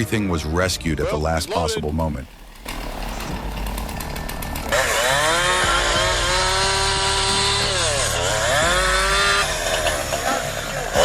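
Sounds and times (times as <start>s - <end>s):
chainsaw revving: 1.6s - 11.0s.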